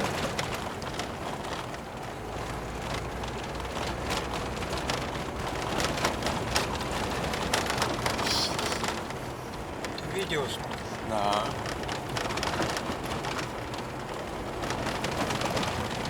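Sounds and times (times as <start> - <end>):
road surface ticks and knocks: 0.0 - 16.0
tyre and engine rumble: 0.0 - 16.0.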